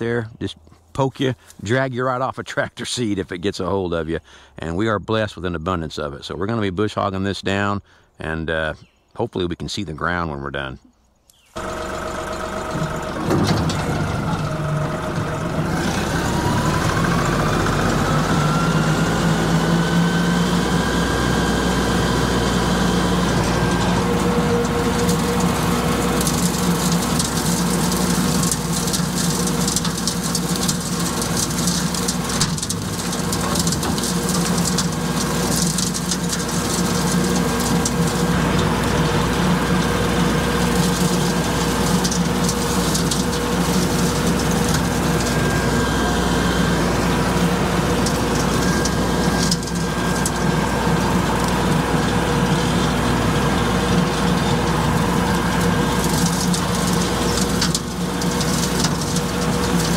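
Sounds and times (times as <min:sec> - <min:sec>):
tractor engine with whine: 0:11.4 - 0:59.9.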